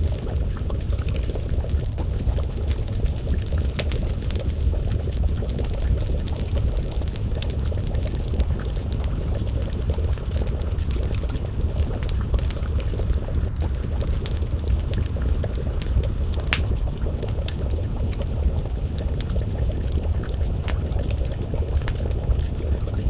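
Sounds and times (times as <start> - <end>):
low rumble: 0.0 - 23.0
stew bubbling in a pot: 0.0 - 23.0
wood fire crackling: 0.0 - 23.0.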